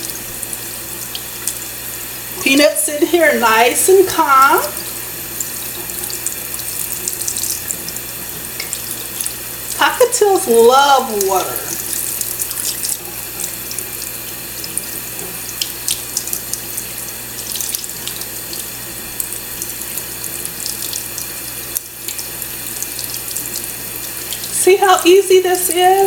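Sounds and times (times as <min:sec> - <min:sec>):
faucet running into sink: 0:00.0 - 0:26.0
water splashing and dripping: 0:03.5 - 0:25.8.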